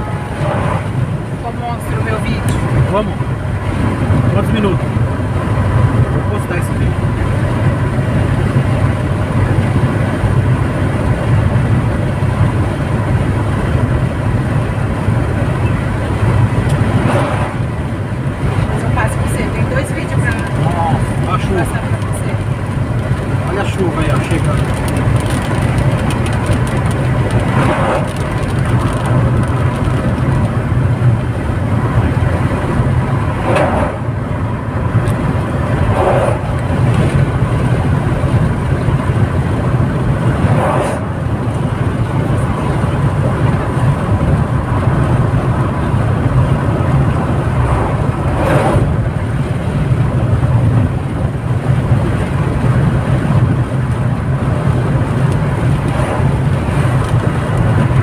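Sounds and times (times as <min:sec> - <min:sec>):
car engine and tyre noise: 0:00.0 - 0:58.0
passing trucks rushing: 0:00.0 - 0:58.0.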